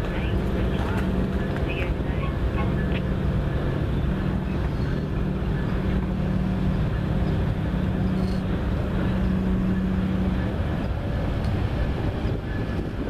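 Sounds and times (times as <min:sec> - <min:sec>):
distant diesel locomotive drone: 0:00.0 - 0:13.0
wind rumbling on microphone: 0:00.0 - 0:13.0.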